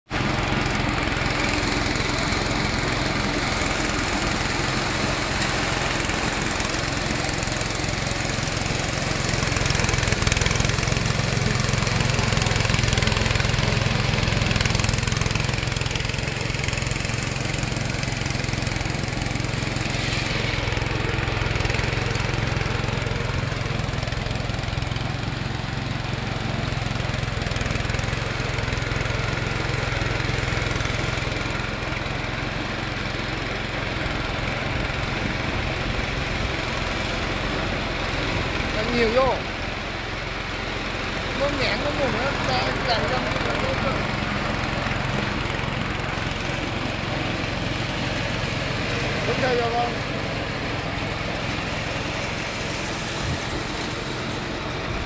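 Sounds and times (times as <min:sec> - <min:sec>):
small petrol engine running: 0:00.1 - 0:55.0.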